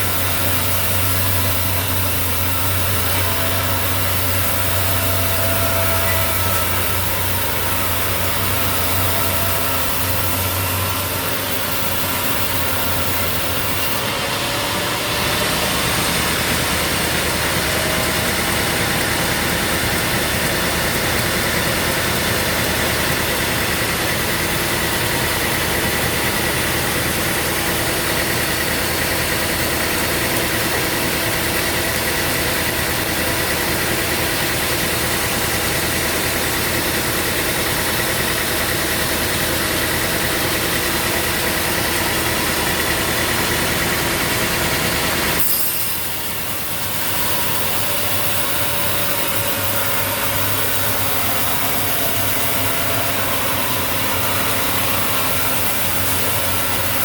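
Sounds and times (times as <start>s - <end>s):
high machine whine: 0.0s - 57.0s
sawmill motor hum: 0.0s - 57.0s.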